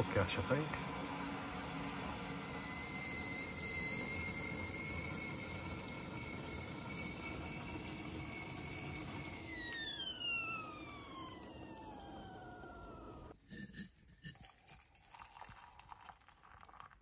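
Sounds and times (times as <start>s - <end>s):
kettle whistling: 0.0s - 13.4s, 14.7s - 17.0s.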